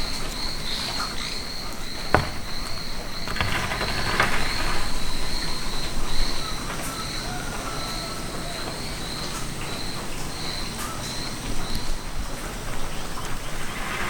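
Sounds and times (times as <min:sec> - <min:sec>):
cricket chirping: 0:00.0 - 0:13.3.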